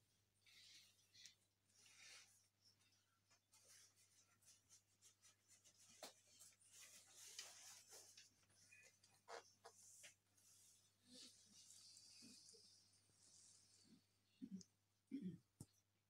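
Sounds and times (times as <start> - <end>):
faint scratchy rustling: 0.5 - 14.0.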